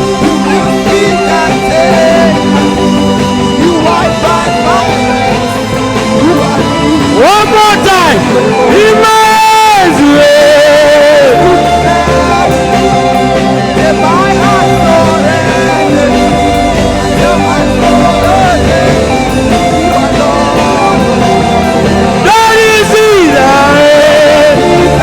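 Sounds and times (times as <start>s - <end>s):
bass line: 0.0s - 25.0s
keyboard chords: 0.0s - 25.0s
person singing: 0.0s - 25.0s.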